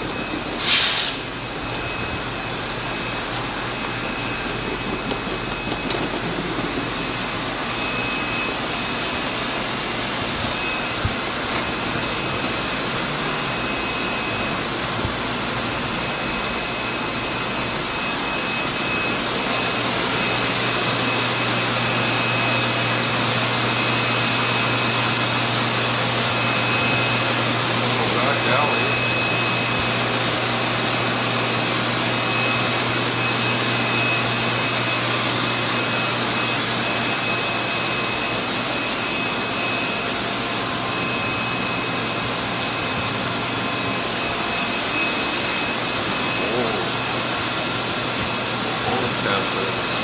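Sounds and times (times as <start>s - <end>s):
mechanical drone with high whine: 0.0s - 50.0s.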